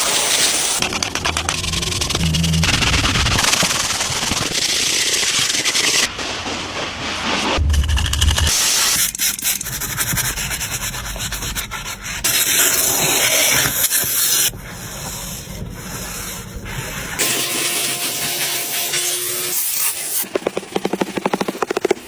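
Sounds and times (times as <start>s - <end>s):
scrubbing and rubbing car surfaces: 0.5s - 18.7s.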